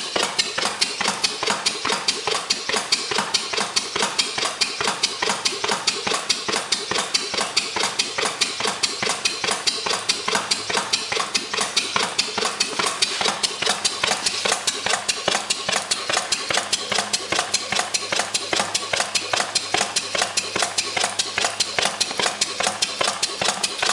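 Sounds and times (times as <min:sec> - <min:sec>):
gas engine clattering: 0:00.0 - 0:23.9.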